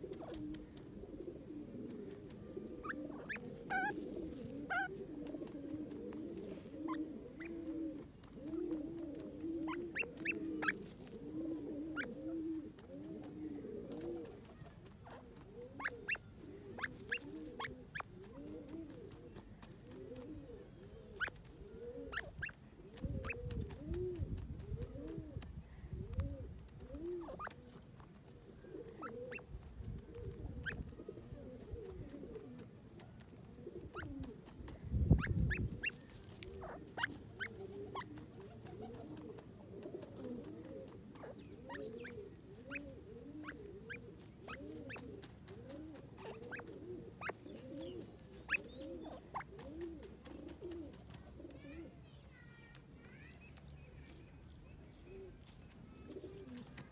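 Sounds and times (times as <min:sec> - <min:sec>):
scratching in loose soil: 0:00.0 - 0:51.8.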